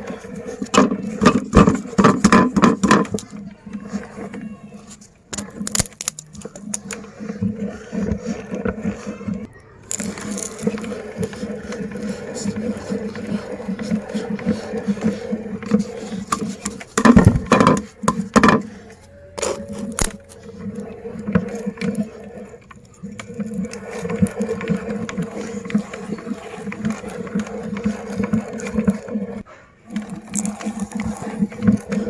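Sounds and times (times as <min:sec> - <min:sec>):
meat grinder grinding cookies: 0:05.6 - 0:32.0.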